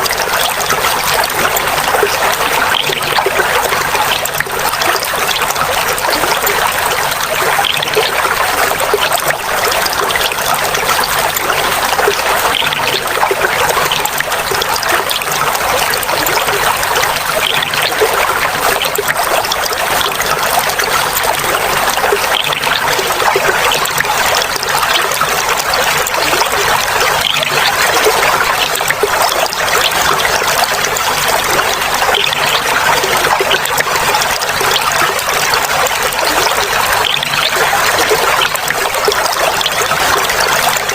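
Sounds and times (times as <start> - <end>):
water trickling and babbling: 0.0 - 40.9.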